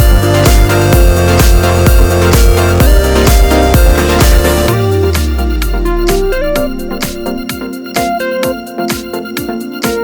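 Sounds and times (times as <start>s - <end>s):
electronic music with keyboard melody: 0.0s - 10.0s.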